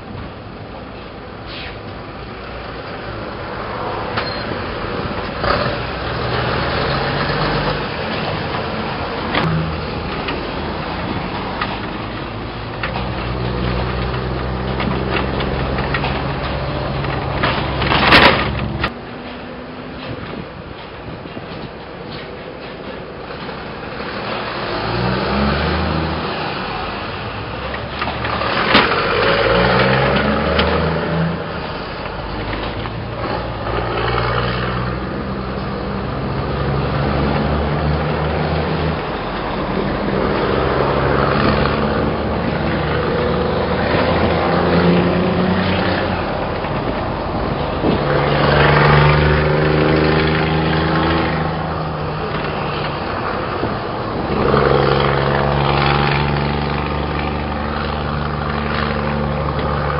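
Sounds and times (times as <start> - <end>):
truck engine accelerating: 2.4 - 59.9.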